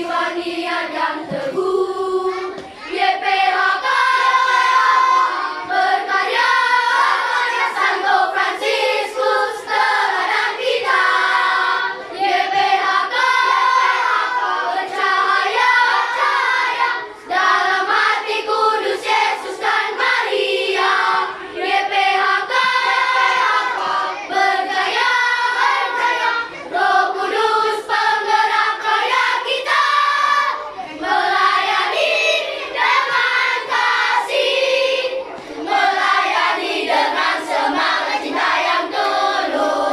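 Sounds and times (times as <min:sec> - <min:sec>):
children's choir singing a march: 0:00.0 - 0:39.9.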